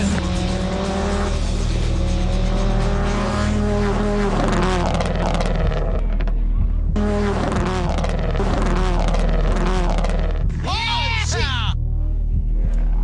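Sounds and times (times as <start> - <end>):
rally car engine at full throttle: 0.0 - 10.8, 11.8 - 13.0.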